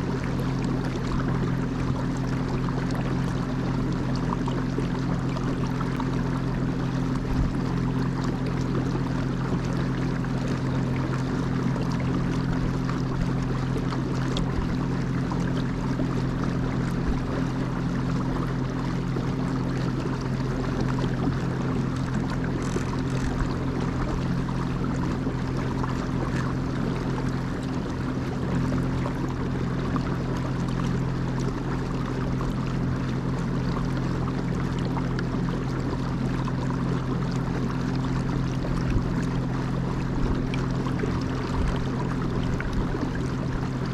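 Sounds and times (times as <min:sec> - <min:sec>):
boat motor humming: 0:00.0 - 0:43.9
rushing water: 0:00.0 - 0:43.9.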